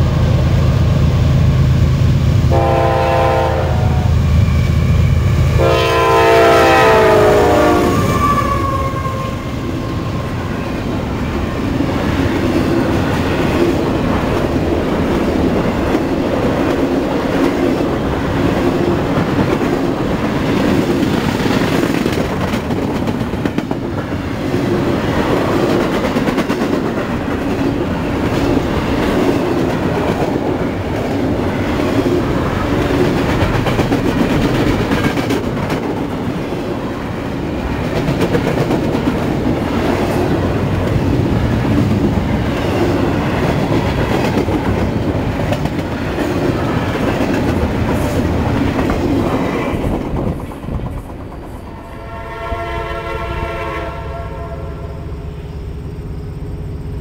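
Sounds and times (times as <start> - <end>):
train wheels rumbling on rails: 0.0 - 53.7.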